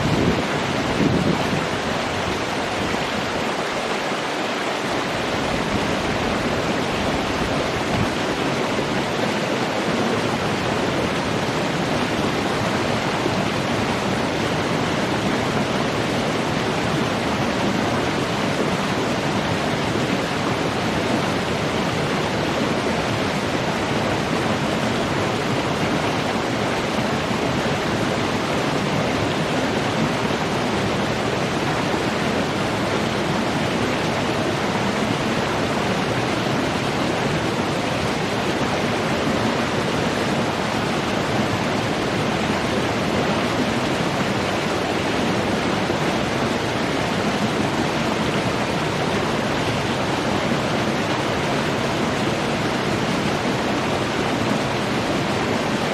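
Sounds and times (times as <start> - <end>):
water rushing: 0.0 - 55.9.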